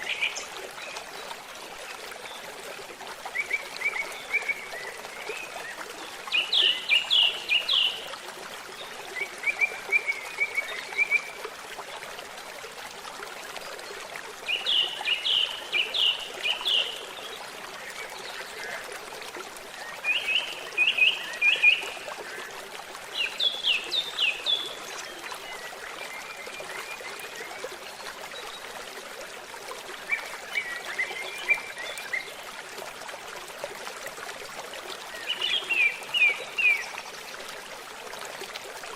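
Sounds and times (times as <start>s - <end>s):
babbling stream: 0.0s - 38.9s.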